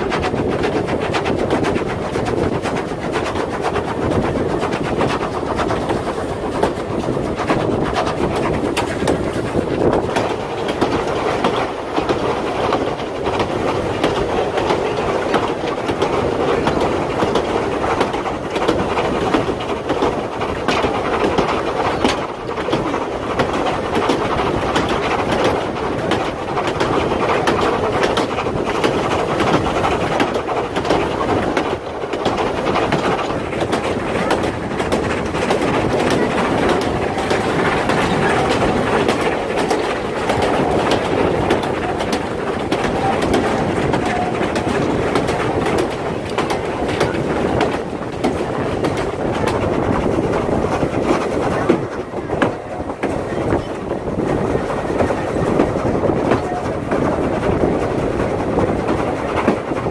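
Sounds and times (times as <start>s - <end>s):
train coaches rumbling: 0.0s - 59.9s
wheels clacking over rail joints: 0.0s - 59.9s.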